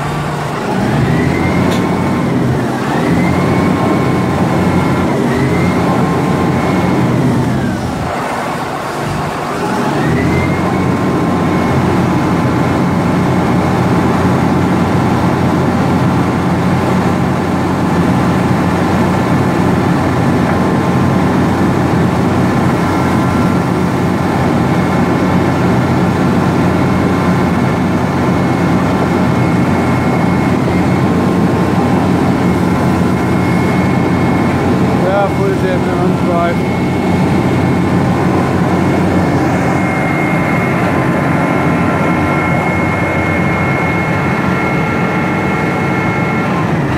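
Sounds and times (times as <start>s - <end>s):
paver diesel engine and whining drive: 0.0s - 46.9s.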